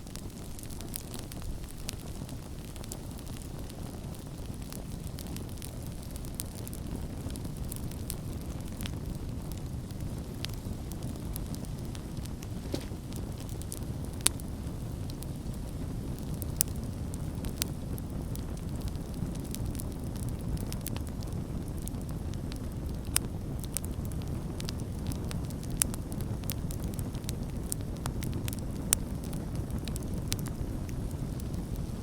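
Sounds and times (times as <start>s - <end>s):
burning wood crackling and popping: 0.0s - 32.0s
campfire flame rumble: 0.0s - 32.0s.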